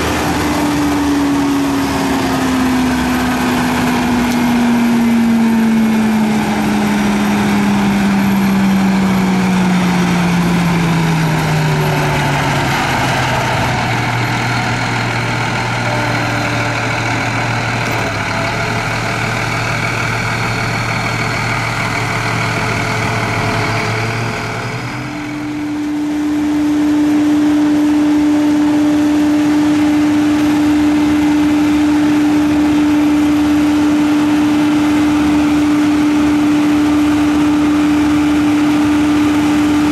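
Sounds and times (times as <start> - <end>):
diesel engine and hydraulics running: 0.0 - 39.9.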